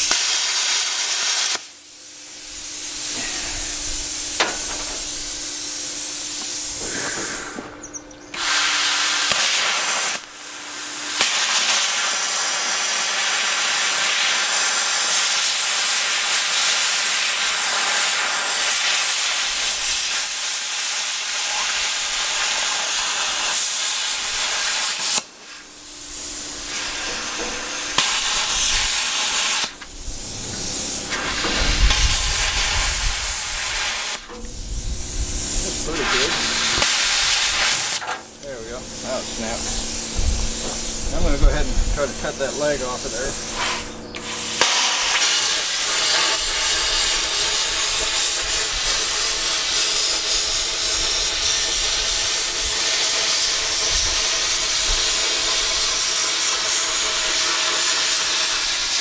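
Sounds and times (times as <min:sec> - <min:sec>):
plasma cutter hissing: 0:00.0 - 0:59.0.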